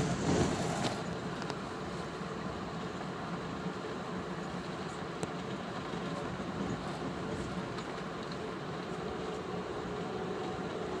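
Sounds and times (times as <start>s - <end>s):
moving train rumble: 0.0s - 11.0s.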